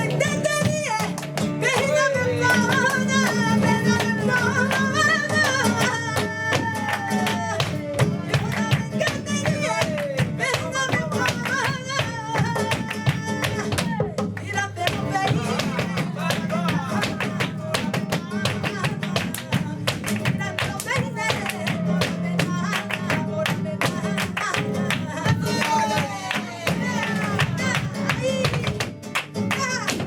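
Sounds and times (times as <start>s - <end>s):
flamenco guitar: 0.0s - 30.0s
person singing flamenco: 0.0s - 30.0s.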